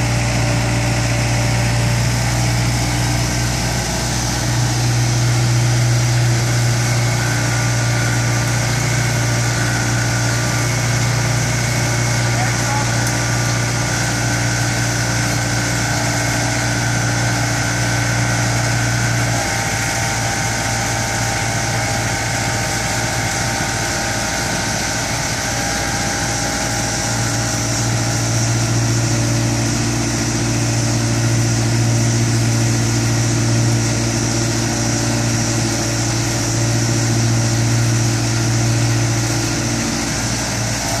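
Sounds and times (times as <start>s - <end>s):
blower engine drone: 0.0s - 41.0s.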